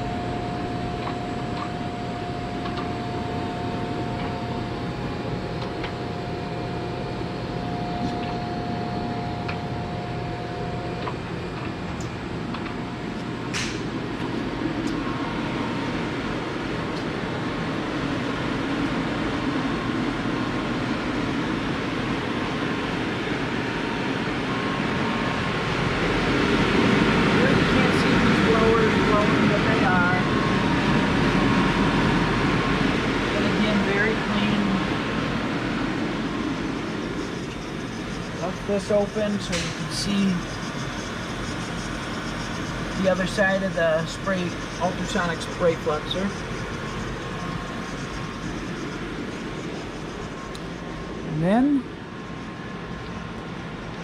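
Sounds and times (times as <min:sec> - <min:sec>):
machine hum and whir: 0:00.0 - 0:54.0
thin steady whine: 0:00.0 - 0:54.0.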